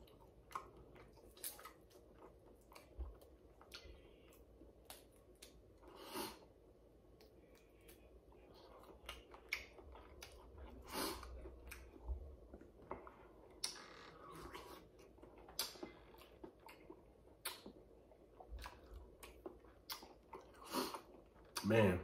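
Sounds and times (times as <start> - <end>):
wet chewing and lip smacks: 0.0 - 6.0, 7.1 - 21.7.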